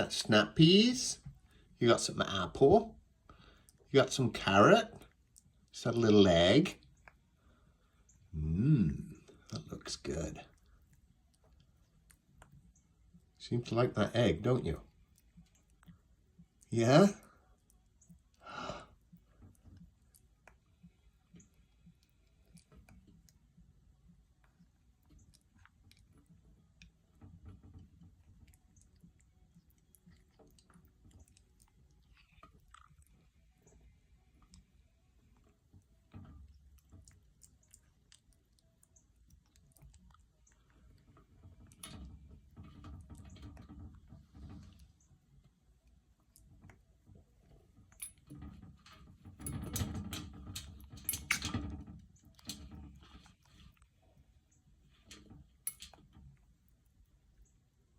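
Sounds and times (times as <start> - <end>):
parrot beak clicking and crunching: 3.2 - 8.3, 9.0 - 13.8, 14.4 - 57.9.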